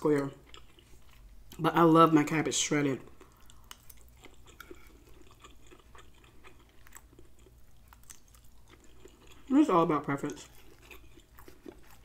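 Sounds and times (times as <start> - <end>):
chewing soft food: 0.0 - 1.8, 2.8 - 12.0.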